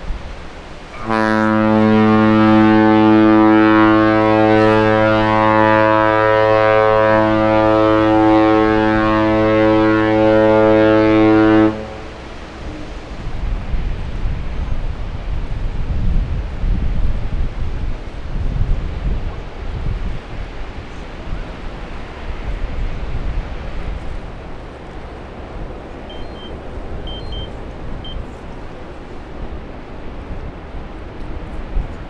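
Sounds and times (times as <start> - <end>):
ship horn long low blast: 0.0 - 32.0.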